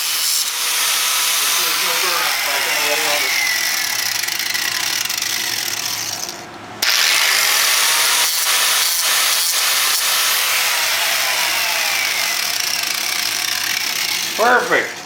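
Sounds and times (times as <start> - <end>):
power tool motor whine: 0.0 - 14.7.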